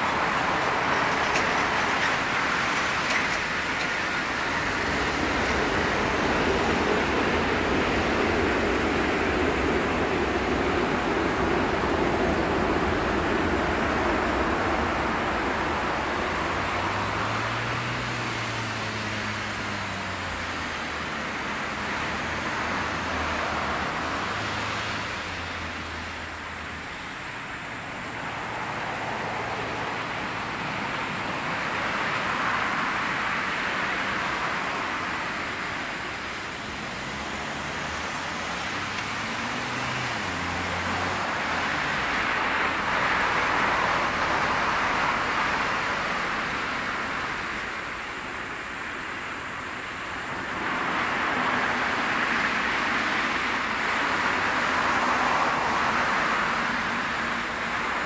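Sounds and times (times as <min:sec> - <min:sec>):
jet engines rushing: 0:00.0 - 0:58.0.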